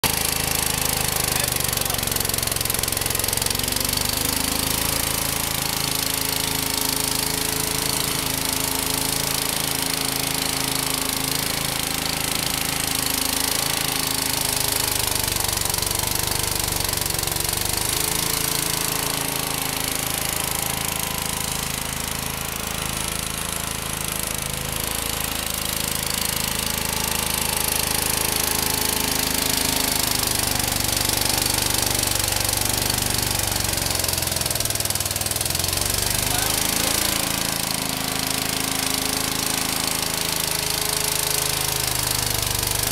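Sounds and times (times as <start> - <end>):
garden tractor engine running: 0.0 - 42.9
snowthrower running: 0.0 - 42.9.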